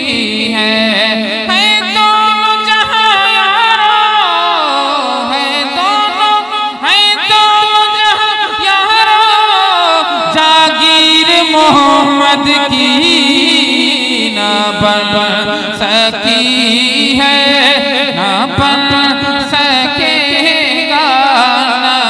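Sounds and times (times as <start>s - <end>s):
man singing ornamented melody: 0.0s - 22.0s.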